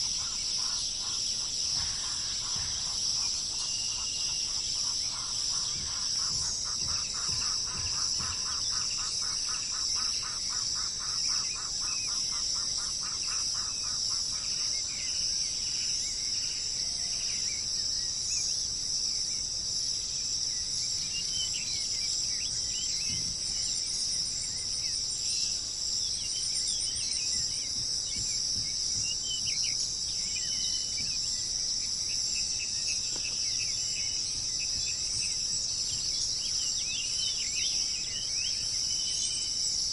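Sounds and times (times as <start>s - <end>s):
birds calling: 0.0s - 17.4s, 20.8s - 39.9s
insect chorus: 0.0s - 39.9s.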